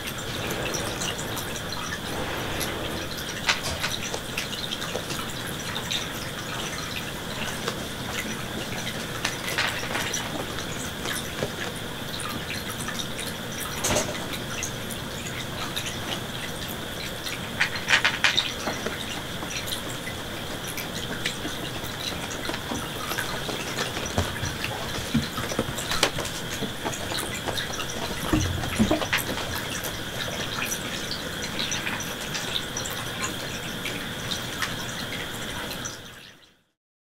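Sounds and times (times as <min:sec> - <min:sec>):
water trickling: 0:00.0 - 0:36.5.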